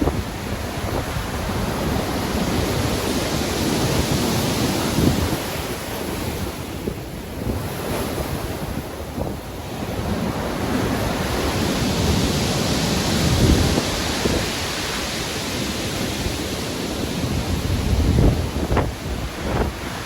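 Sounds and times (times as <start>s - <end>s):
stormy ocean waves breaking: 0.0s - 20.0s
wind: 0.0s - 20.0s.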